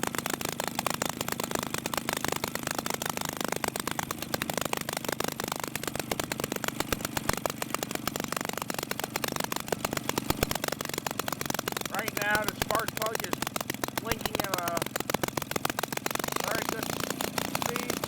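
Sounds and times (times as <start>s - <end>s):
two-stroke engine running: 0.0s - 18.0s.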